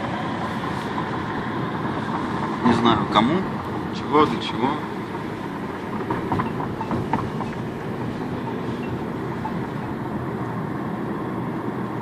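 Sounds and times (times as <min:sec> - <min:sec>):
road and tyre noise in a car: 0:00.0 - 0:12.0.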